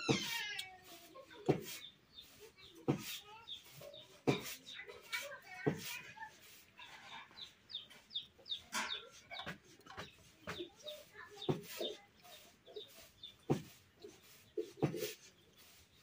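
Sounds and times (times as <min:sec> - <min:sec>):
chickens clucking: 0:00.0 - 0:16.0
people eating with smacks: 0:00.0 - 0:16.0.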